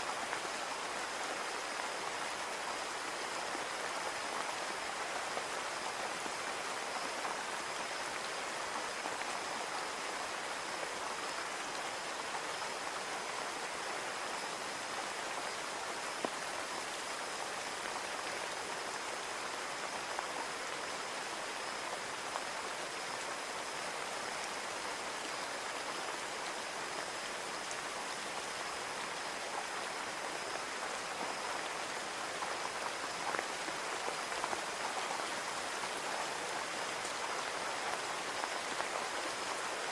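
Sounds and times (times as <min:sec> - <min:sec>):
rain on a window pane: 0:00.1 - 0:39.9.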